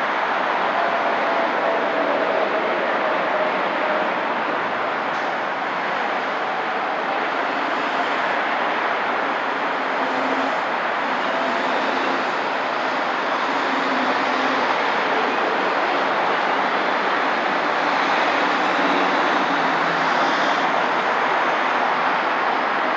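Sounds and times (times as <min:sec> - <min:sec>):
road traffic passing: 0:00.0 - 0:22.9.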